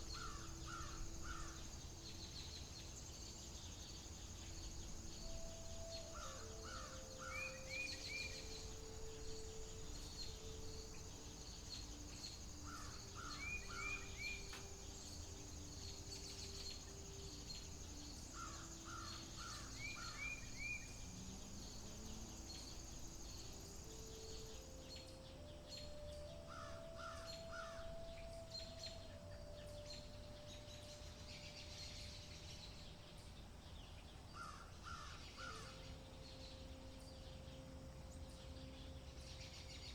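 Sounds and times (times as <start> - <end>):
faint low held tones: 0.0 - 39.9
high insect-like hum: 0.0 - 39.9.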